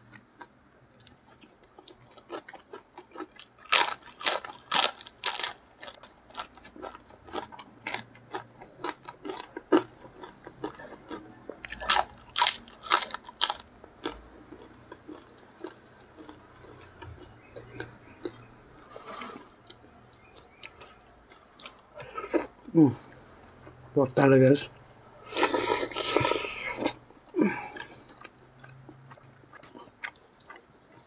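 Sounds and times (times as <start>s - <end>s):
crunching bites and chewing: 0.1s - 22.5s, 25.2s - 31.0s.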